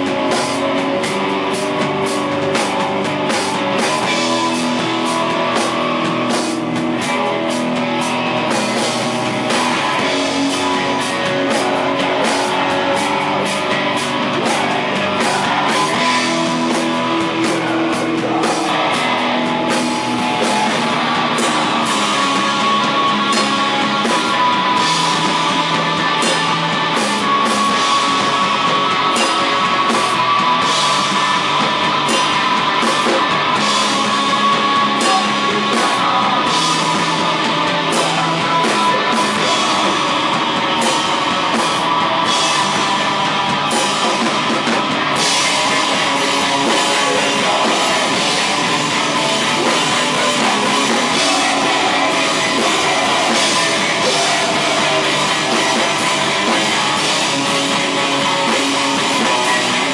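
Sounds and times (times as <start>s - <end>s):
drum kit: 0.0s - 59.9s
loud electric guitars: 0.0s - 59.9s.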